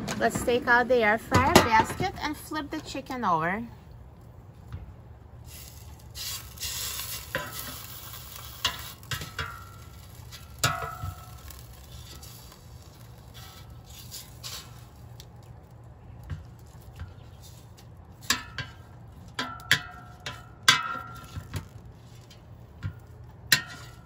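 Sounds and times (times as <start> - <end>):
light sizzle: 0.3 - 24.0.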